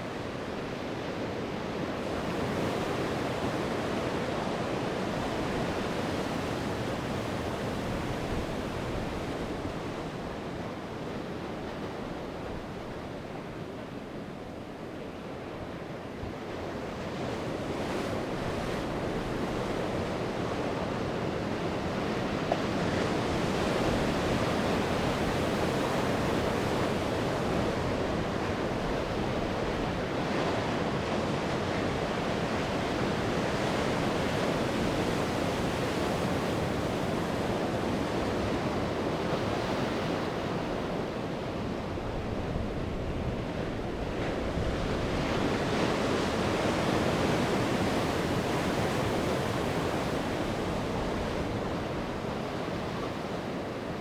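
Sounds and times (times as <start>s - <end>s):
sea waves breaking on shore: 0.1s - 54.0s.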